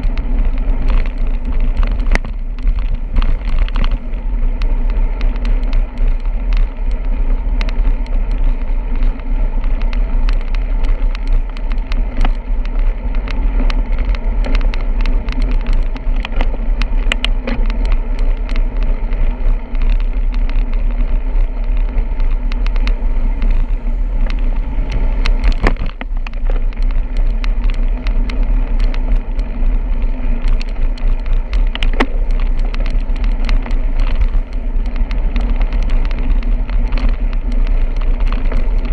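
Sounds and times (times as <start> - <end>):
bicycle road noise: 0.0 - 38.9
small clicks and rattles: 0.0 - 38.9
wind rush on microphone: 0.0 - 38.9.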